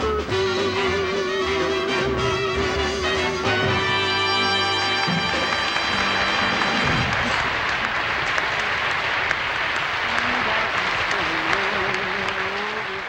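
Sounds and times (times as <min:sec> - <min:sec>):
audience applauding: 0:01.6 - 0:13.0.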